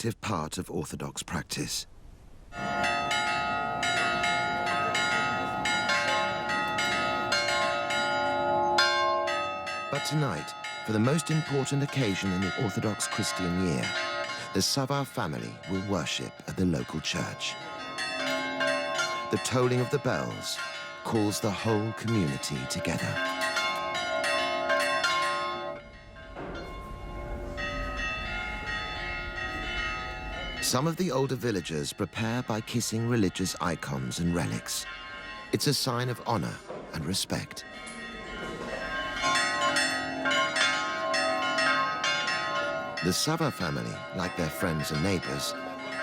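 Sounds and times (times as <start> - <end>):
church bells ringing: 2.5 - 46.0.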